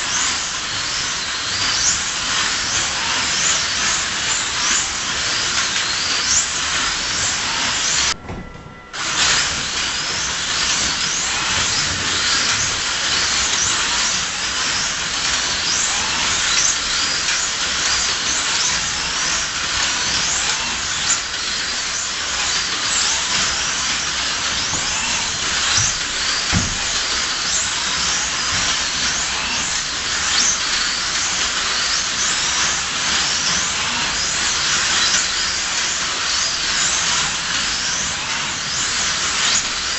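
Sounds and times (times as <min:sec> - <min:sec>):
slot car motors whining: 0:00.0 - 0:39.9.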